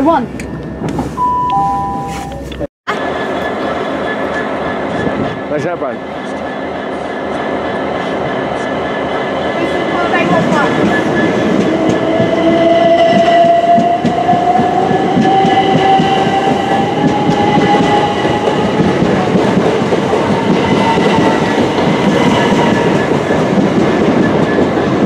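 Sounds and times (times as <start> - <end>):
wheels rumbling and clattering on rails: 2.0 - 25.0.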